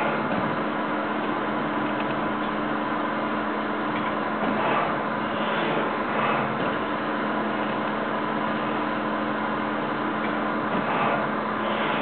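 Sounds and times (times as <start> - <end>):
machine mechanical hum: 0.0 - 12.0.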